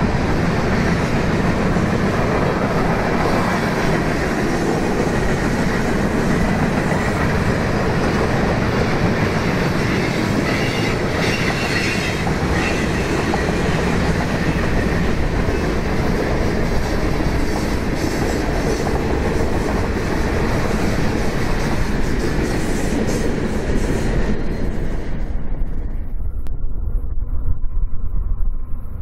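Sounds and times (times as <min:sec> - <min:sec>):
freight train rolling over bridge: 0:00.0 - 0:26.0
wind on microphone: 0:00.0 - 0:29.0.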